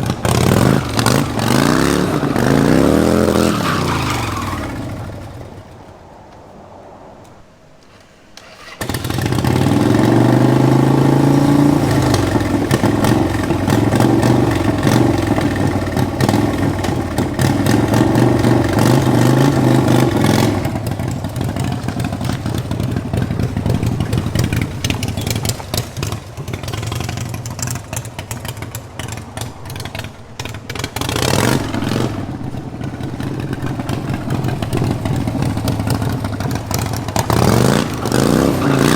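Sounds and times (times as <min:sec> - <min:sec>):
go-kart engine running: 0:00.0 - 0:05.7, 0:08.4 - 0:38.9
engine crackles: 0:00.0 - 0:38.9.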